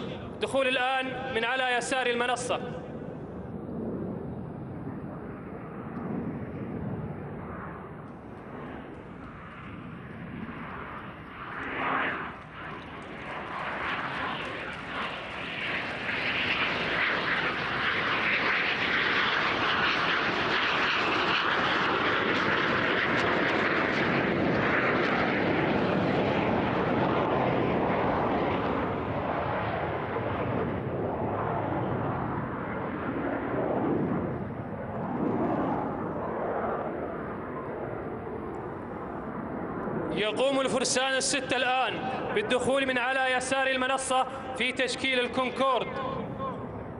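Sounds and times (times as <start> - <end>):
jet engine rushing: 0.0 - 46.9.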